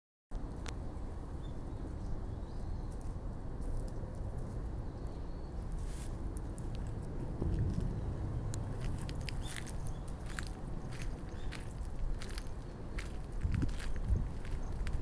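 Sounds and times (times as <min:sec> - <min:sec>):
steady low rumble: 0:00.4 - 0:15.0.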